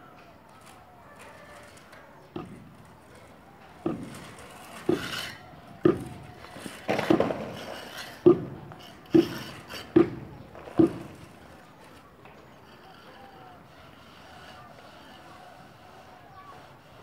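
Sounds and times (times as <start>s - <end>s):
trowel scraping wet cement: 1.1s - 17.0s.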